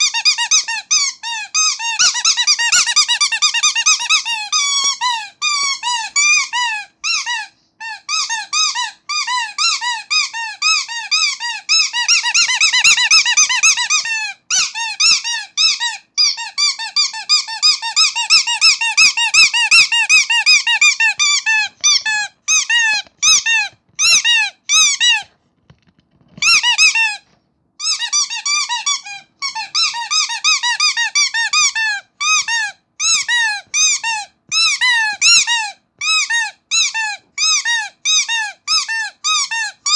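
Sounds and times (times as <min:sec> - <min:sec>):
squeaky toy squeaks: 0:00.0 - 0:25.4, 0:26.2 - 0:39.9.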